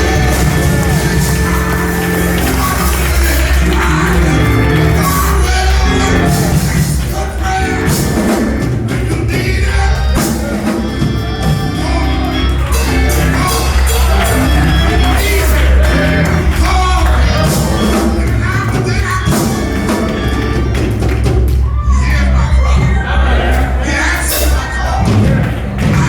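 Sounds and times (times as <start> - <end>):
band music with bass and drums: 0.0 - 26.0
voices singing and shouting: 0.0 - 26.0.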